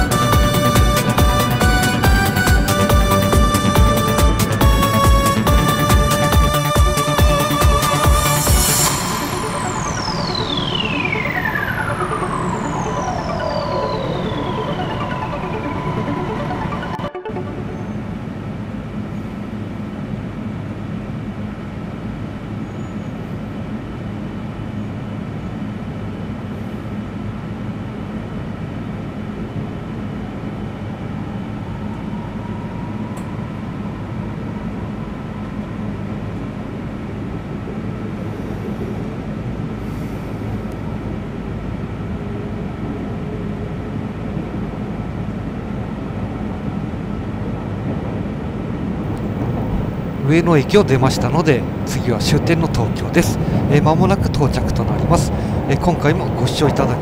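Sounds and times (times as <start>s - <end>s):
faint rising whine: 0.0s - 57.0s
train running noise: 0.0s - 57.0s.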